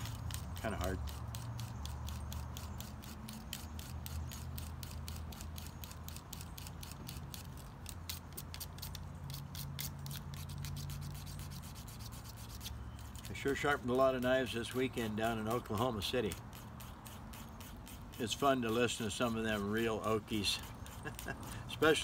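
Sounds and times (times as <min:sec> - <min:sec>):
knife sharpener rasping on blade: 0:00.0 - 0:22.0.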